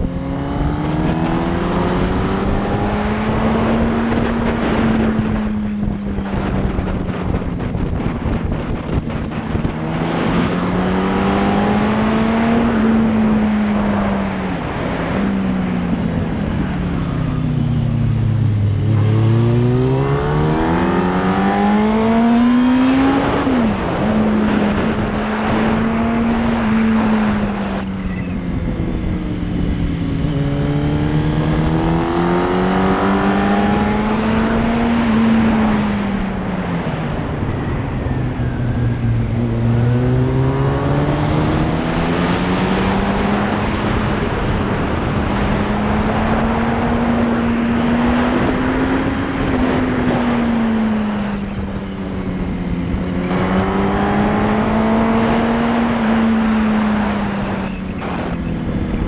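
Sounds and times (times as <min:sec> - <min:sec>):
motorcycle engine running at speed: 0:00.0 - 0:59.0
wind rushing over microphone: 0:00.0 - 0:59.0.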